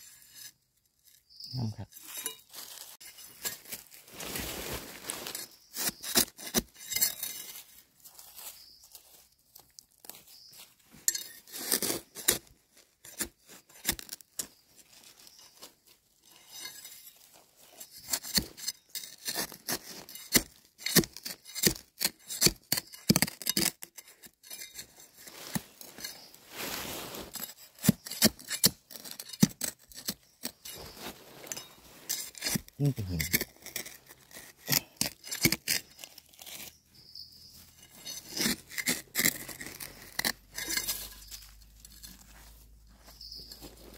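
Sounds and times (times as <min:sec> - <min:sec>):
digging in dry soil: 0:00.0 - 0:43.9.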